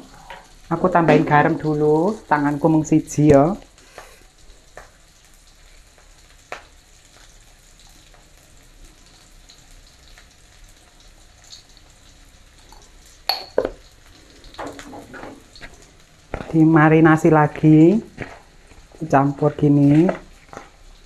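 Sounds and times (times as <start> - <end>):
oil sizzling in a wok: 0.0 - 21.0.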